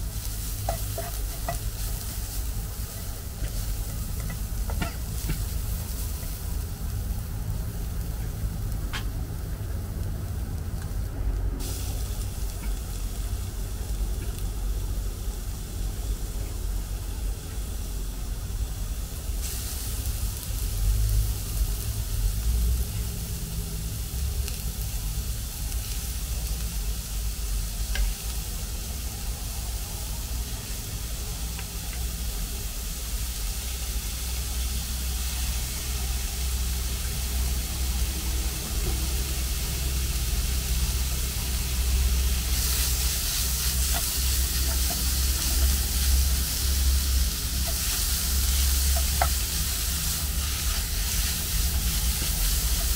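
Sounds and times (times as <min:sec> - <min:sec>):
food sizzling in pan: 0:00.0 - 0:52.9.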